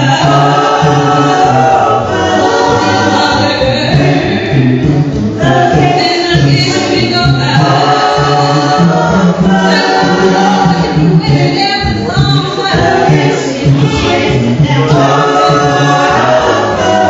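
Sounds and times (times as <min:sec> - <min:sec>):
vocal group singing in harmony: 0:00.0 - 0:17.0.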